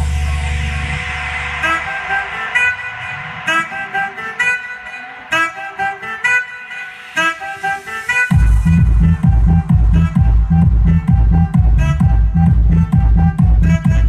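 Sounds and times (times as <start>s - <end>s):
dance music on car speakers: 0.0s - 14.0s.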